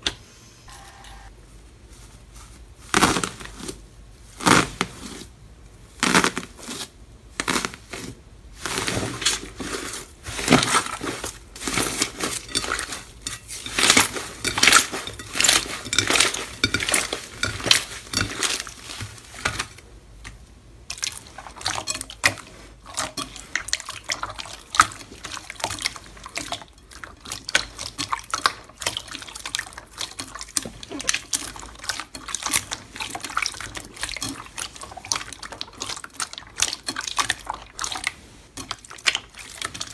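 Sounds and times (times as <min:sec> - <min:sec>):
slime squelching by hand: 0:05.9 - 0:39.9.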